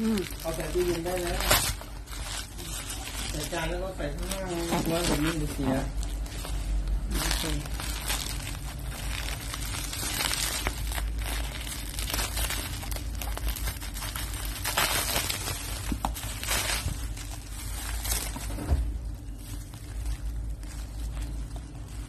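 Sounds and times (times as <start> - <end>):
bubble wrap crinkling: 0.0 - 22.0.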